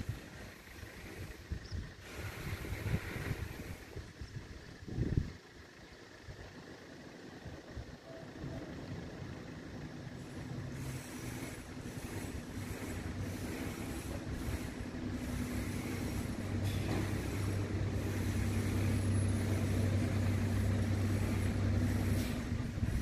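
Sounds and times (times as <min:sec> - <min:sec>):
vehicle engine drone: 0:00.0 - 0:23.0.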